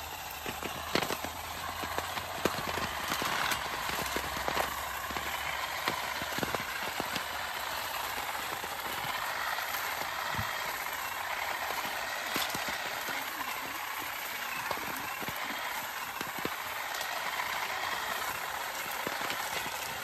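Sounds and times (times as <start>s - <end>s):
leaves and twigs rattling: 0.0s - 20.0s
tines clicking on branches: 0.0s - 20.0s.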